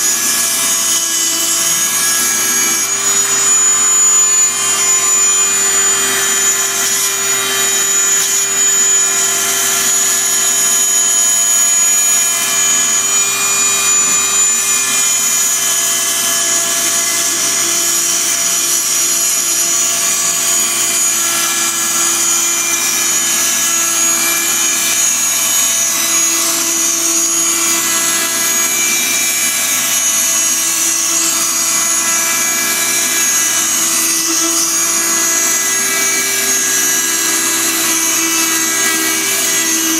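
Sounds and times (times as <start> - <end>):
oscillating multi-tool grinding grout: 0.0 - 39.9.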